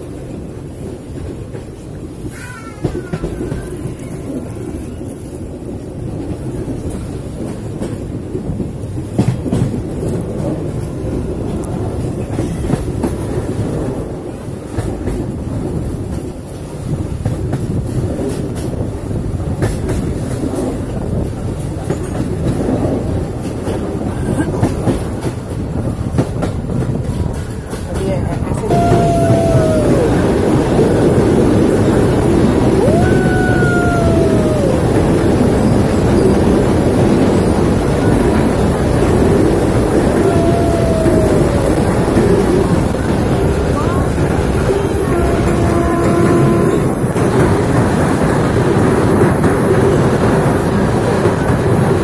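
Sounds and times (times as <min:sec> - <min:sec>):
train rumbling: 0:00.0 - 0:52.0
wheels clattering over rails: 0:00.0 - 0:52.0.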